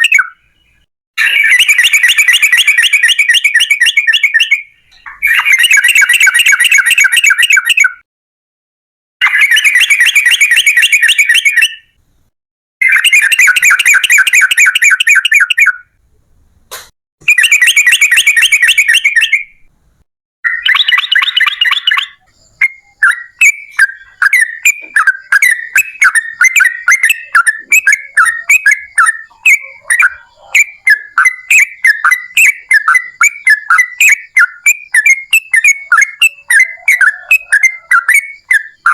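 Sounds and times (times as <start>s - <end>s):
bird singing bubbly chattering phrases: 0.0s - 8.0s, 9.2s - 11.9s, 12.8s - 15.9s, 17.2s - 19.6s, 20.4s - 38.9s.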